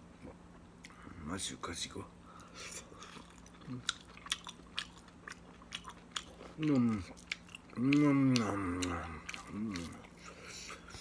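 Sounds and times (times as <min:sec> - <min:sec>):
man chewing food: 0:00.0 - 0:01.1, 0:02.2 - 0:11.0.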